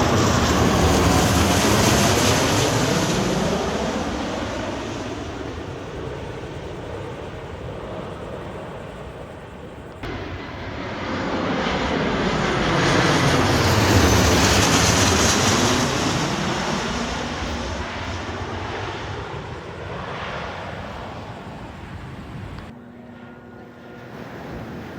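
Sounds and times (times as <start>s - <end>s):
jet aircraft flying past: 0.0s - 24.9s.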